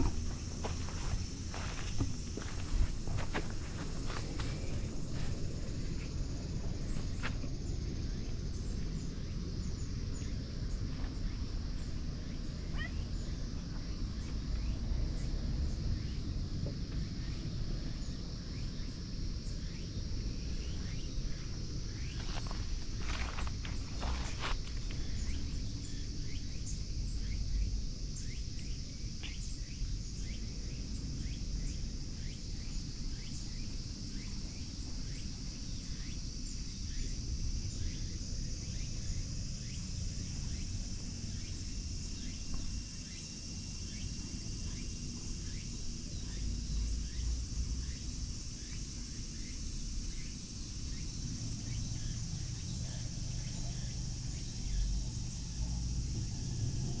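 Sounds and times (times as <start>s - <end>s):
insect chirps: 0.0s - 57.0s
insects droning: 0.0s - 57.0s.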